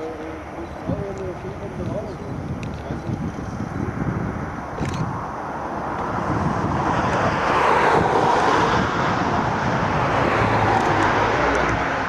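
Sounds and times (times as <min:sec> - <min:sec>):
jet engine noise: 0:00.0 - 0:12.0
wind rumbling on microphone: 0:00.0 - 0:12.0.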